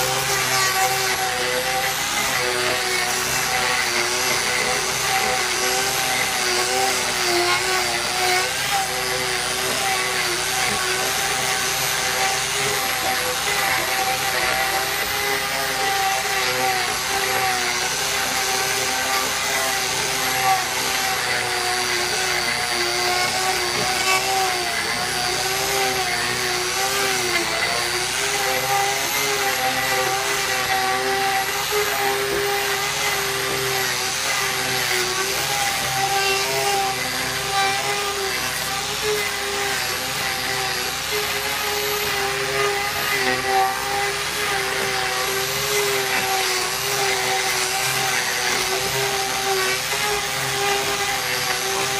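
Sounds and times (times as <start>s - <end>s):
angle grinder shaving wood: 0.0s - 51.9s.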